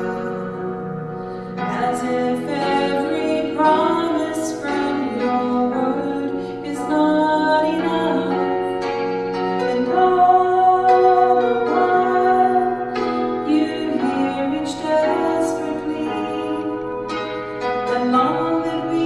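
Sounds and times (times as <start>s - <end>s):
instrumental accompaniment: 0.0s - 19.0s
person singing slow song: 0.0s - 19.0s.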